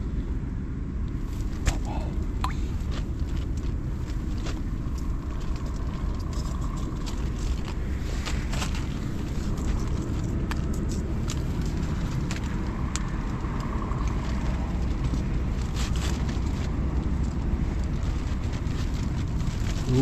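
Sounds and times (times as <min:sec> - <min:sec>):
low rumble: 0:00.8 - 0:20.0.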